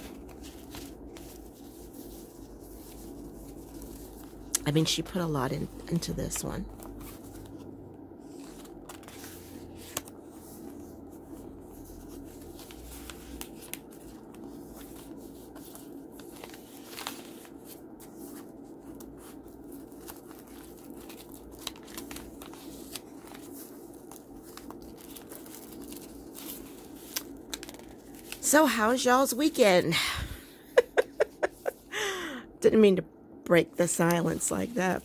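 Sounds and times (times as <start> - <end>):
paper rustling and crinkling: 0.0 - 29.1
steady low hum: 0.0 - 35.0.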